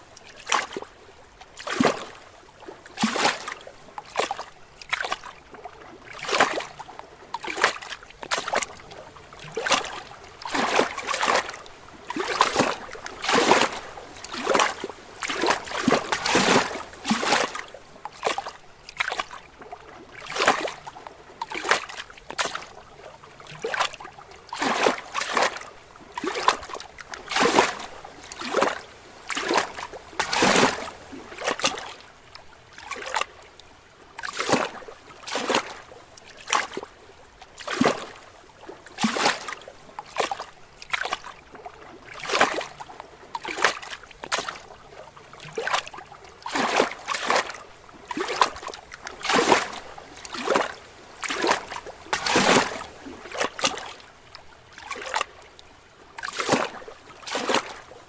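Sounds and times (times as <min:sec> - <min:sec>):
faint wash of water: 0:00.0 - 0:58.0
waves lapping against rocks: 0:00.0 - 0:58.0.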